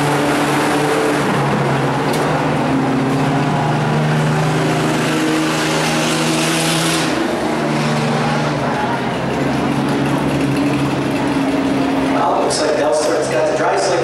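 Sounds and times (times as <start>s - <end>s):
pickup truck engine racing: 0.0s - 14.0s.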